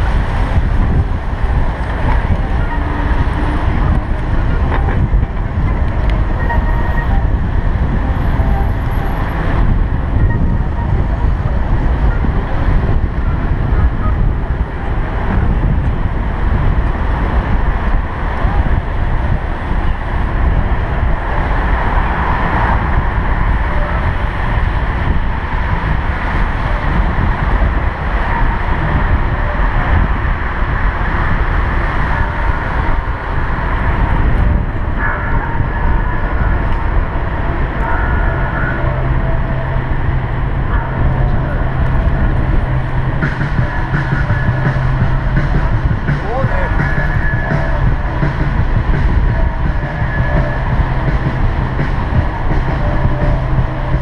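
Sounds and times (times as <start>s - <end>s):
city traffic: 0.0s - 54.0s
wind rumbling on microphone: 0.0s - 54.0s.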